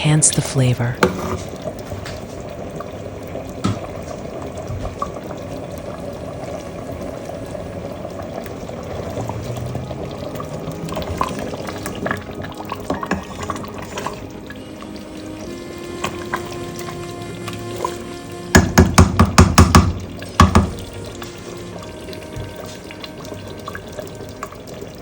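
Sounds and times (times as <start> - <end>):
stew bubbling in a pot: 0.0 - 25.0.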